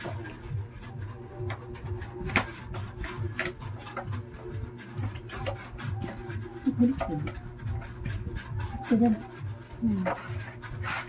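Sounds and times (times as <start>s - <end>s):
cardboard rubbing and scraping: 0.0s - 11.0s.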